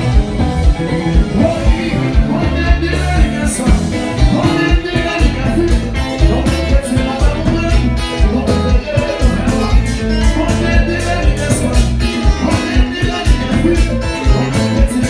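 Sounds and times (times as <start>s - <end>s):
live band playing: 0.0s - 15.0s
person singing into a microphone: 1.2s - 15.0s.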